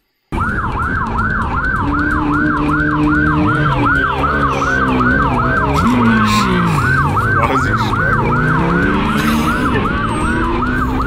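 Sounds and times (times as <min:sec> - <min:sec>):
police siren yelping: 0:00.3 - 0:11.0
vehicle engine running: 0:00.4 - 0:11.0.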